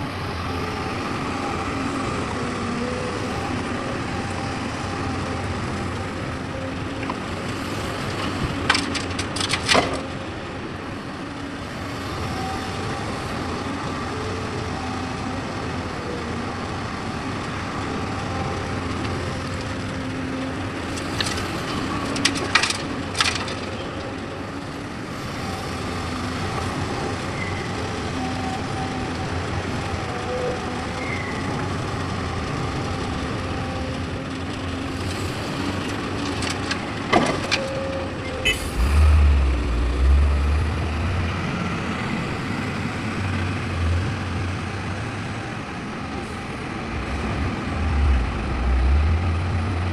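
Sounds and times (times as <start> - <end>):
excavator engine running: 0.0 - 49.9.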